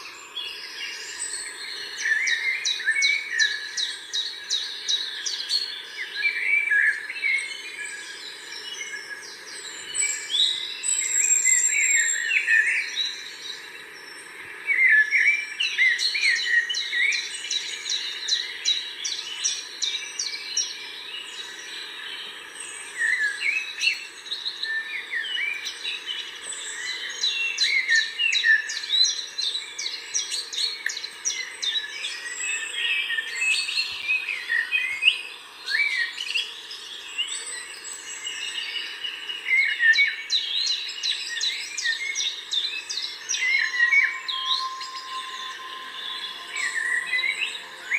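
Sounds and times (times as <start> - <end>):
birds singing and chirping: 0.0 - 47.9.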